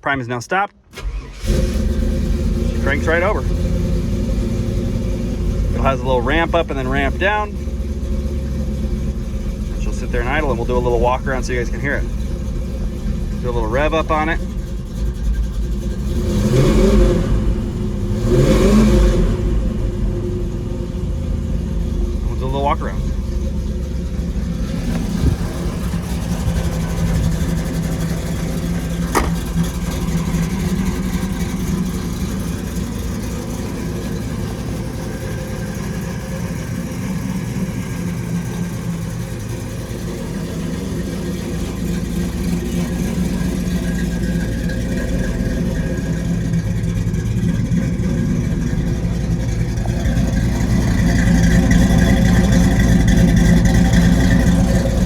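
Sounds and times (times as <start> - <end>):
car engine idling: 0.5 - 55.0.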